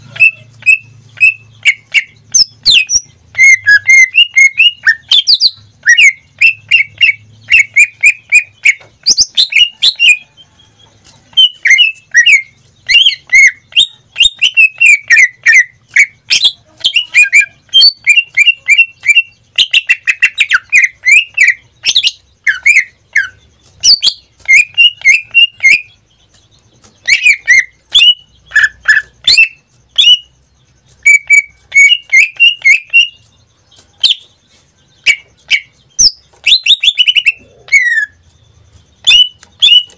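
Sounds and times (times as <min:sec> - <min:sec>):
bird singing chirps and whistles: 0:00.0 - 0:10.6, 0:11.2 - 0:39.9.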